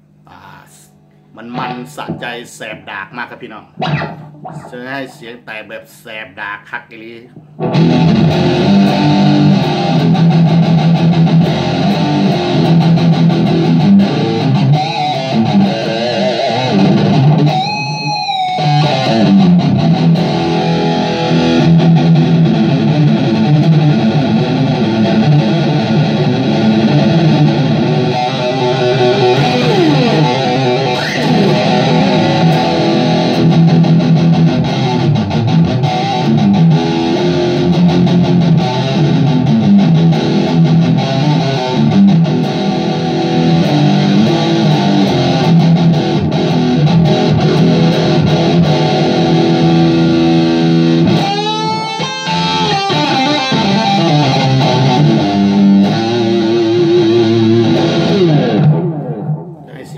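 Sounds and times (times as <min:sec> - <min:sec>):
distorted electric guitar: 0:00.0 - 0:05.7, 0:06.4 - 0:59.9.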